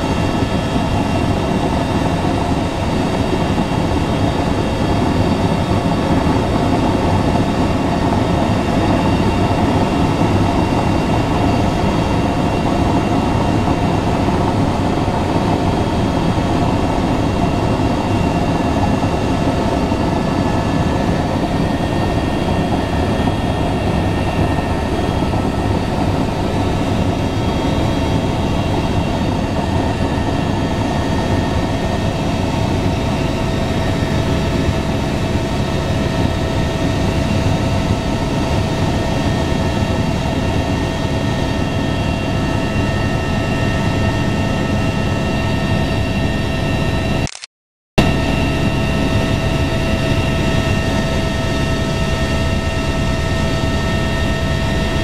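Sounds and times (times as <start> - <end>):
constant whine: 0.0 - 55.0
helicopter engine and rotor drone: 0.0 - 55.0.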